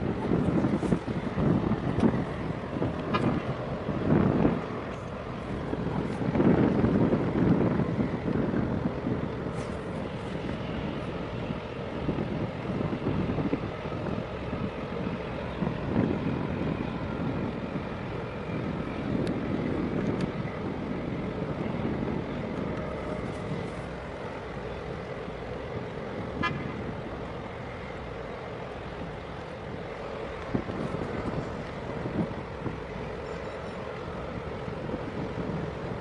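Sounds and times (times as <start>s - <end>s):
boat engine rumbling: 0.0s - 36.0s
wind buffeting microphone: 0.0s - 36.0s.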